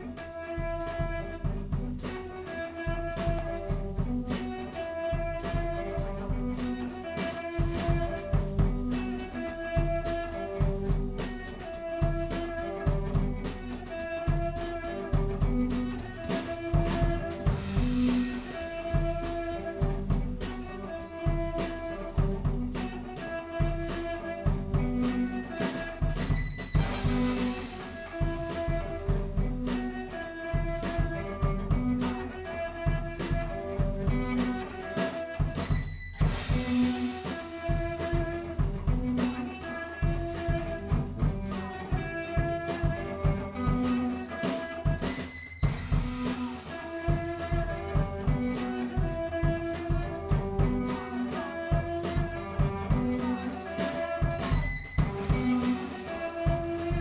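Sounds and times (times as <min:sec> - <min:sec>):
instrumental music with drums and bass: 0:00.0 - 0:57.0.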